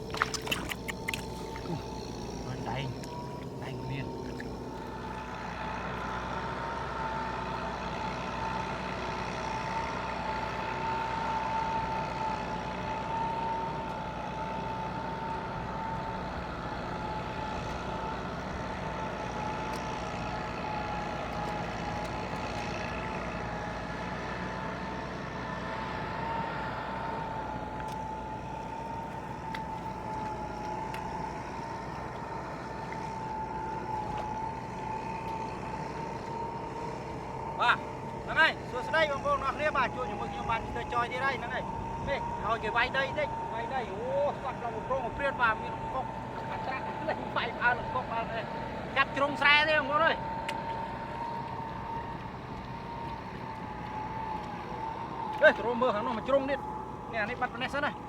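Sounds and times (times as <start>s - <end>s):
tractor engine whining: 0.0s - 58.0s.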